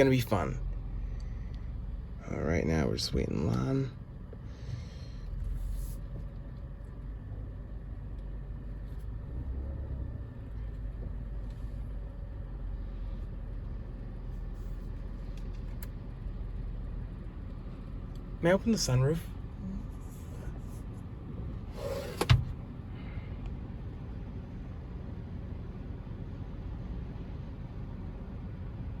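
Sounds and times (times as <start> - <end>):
car idling from inside cabin: 0.0 - 29.0.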